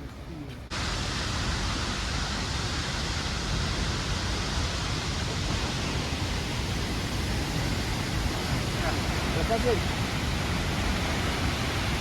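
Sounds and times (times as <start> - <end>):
waterfall rushing: 0.7 - 12.0.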